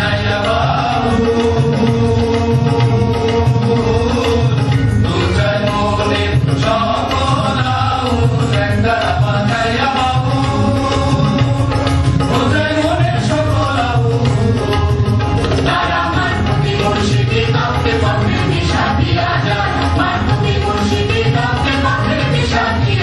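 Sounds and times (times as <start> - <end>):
folk music with hand drum: 0.0 - 23.0.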